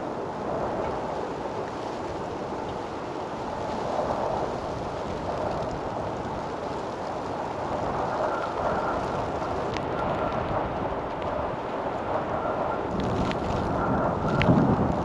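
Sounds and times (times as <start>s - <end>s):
snowstorm wind rushing: 0.0s - 15.0s.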